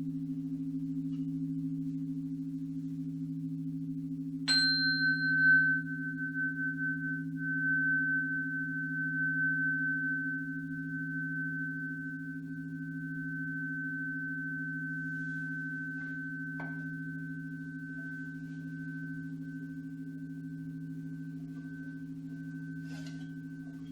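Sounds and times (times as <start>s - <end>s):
low steady ringing tones: 0.0s - 23.9s
high ringing tone: 4.5s - 23.9s.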